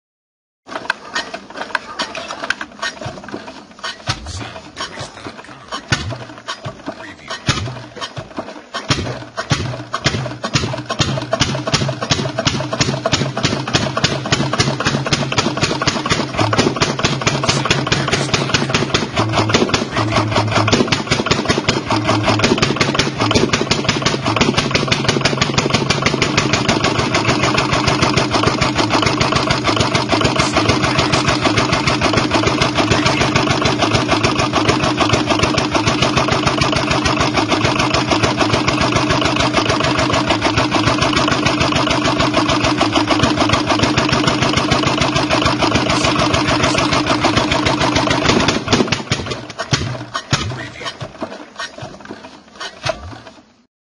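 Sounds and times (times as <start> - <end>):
diesel engine idling: 0.8 - 53.6.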